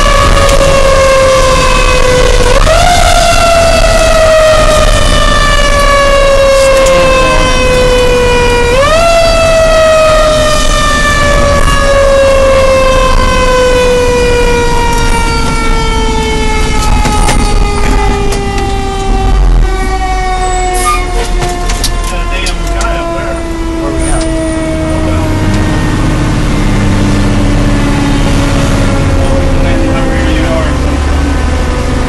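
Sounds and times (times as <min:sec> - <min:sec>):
mechanical siren wailing: 0:00.0 - 0:32.0
truck engine rumbling: 0:00.0 - 0:32.0.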